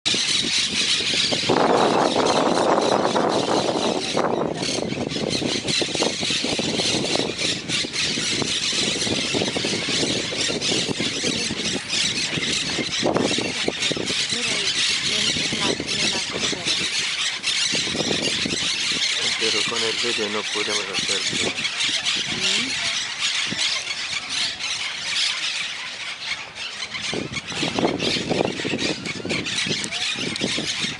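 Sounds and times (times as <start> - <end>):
parakeets chattering: 0.1 - 30.9.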